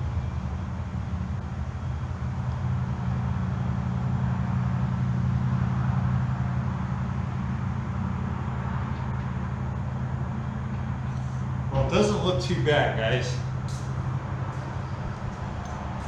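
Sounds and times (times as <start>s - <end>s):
machine droning: 0.0s - 16.0s.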